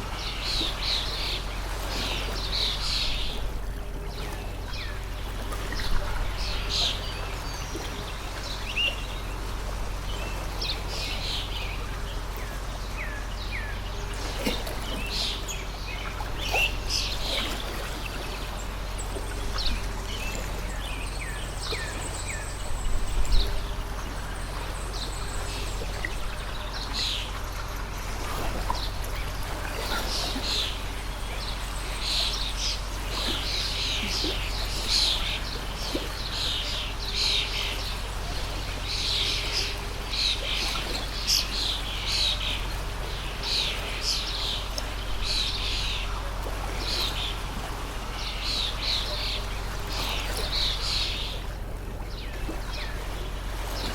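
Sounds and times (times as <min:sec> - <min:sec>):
songbirds chirping: 0:00.0 - 0:53.9
stream water rushing: 0:00.0 - 0:53.9.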